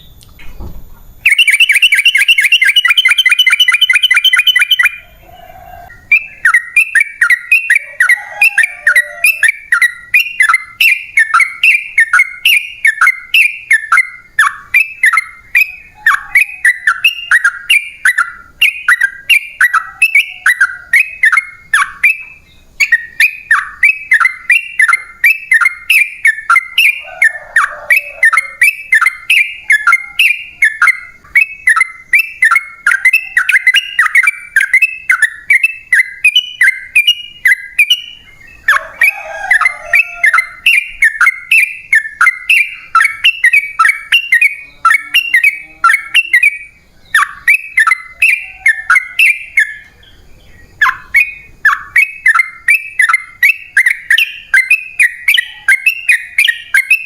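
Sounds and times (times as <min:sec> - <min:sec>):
bird singing bubbling notes: 0:01.2 - 0:57.0.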